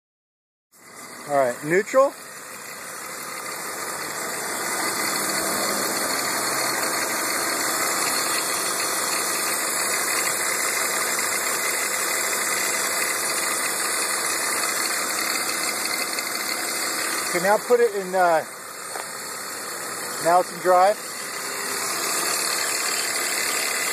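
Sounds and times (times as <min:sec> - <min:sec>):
car engine idling roughly: 0:00.8 - 0:23.9.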